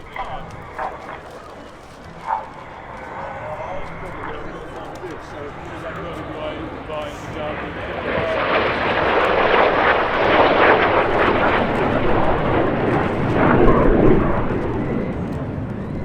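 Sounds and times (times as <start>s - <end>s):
jet aircraft flying past: 0.0s - 16.0s.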